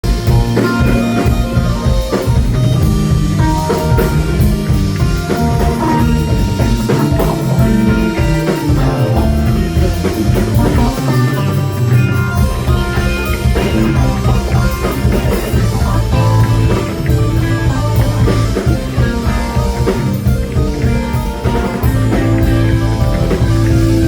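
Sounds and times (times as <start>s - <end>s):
rock band playing: 0.0s - 24.0s.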